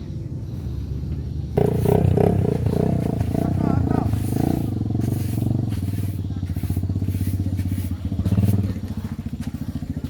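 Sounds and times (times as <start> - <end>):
engine running in fast pulses: 1.6 - 10.0.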